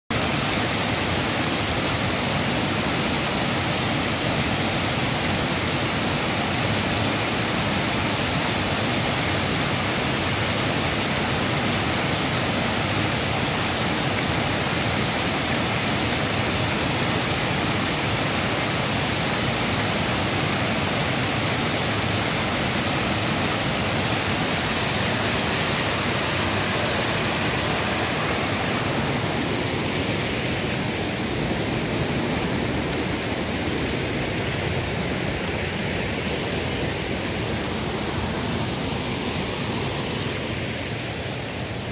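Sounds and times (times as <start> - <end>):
waterfall rushing: 0.1 - 41.9.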